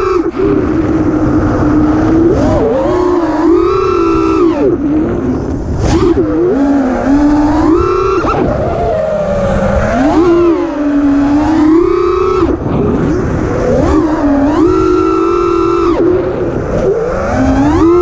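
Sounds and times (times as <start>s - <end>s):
drone motors whining: 0.0s - 18.0s
wind rumble on microphone: 0.0s - 18.0s.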